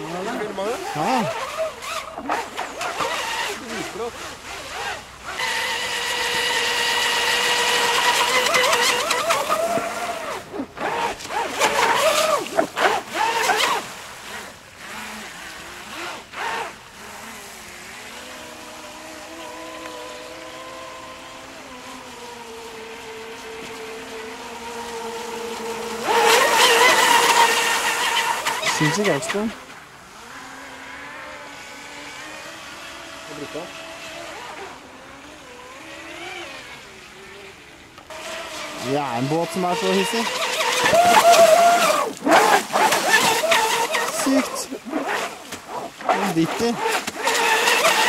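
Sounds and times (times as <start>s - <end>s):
electric boat motor whining: 0.0s - 48.0s.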